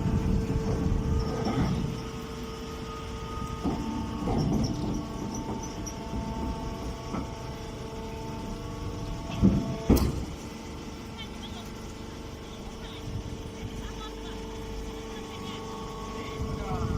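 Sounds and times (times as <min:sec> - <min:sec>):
baling machine running: 0:00.0 - 0:16.9.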